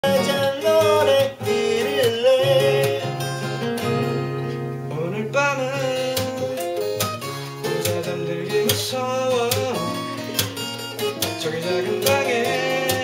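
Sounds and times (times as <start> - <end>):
person singing: 0.0 - 3.8, 4.9 - 13.0
acoustic guitars strummed and picked: 0.0 - 13.0.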